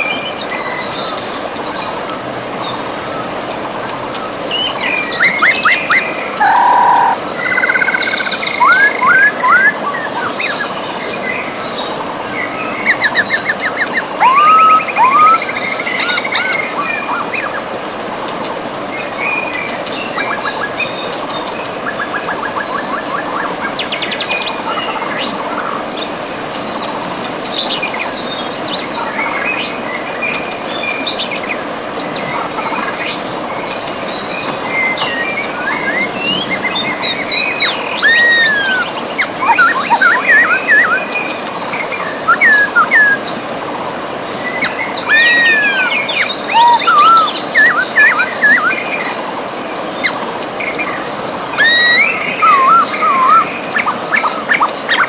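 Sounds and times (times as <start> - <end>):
river rushing: 0.0 - 55.0
songbirds singing: 0.0 - 55.0.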